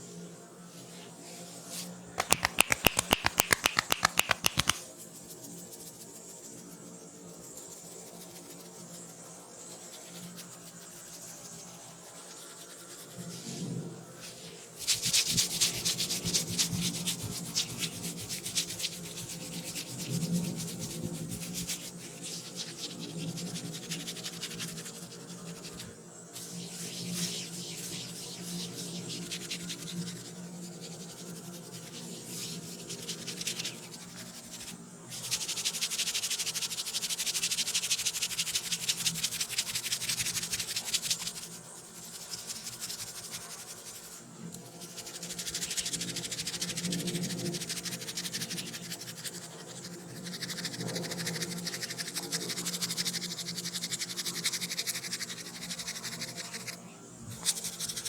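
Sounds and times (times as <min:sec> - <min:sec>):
scratching on hair and scalp: 0:01.0 - 0:58.0.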